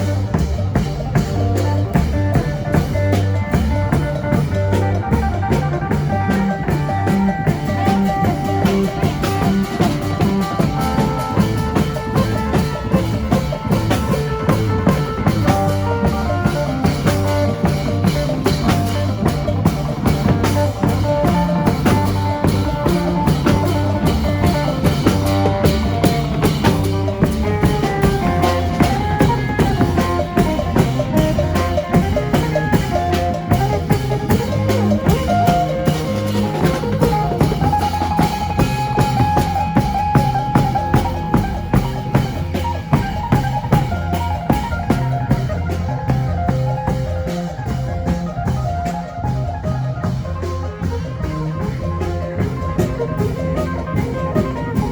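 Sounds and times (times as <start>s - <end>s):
drum kit beat: 0.0s - 54.9s.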